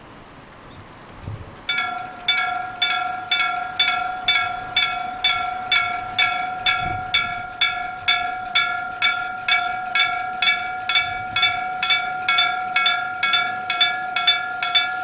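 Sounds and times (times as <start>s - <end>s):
level crossing bell clanging: 1.7s - 15.0s.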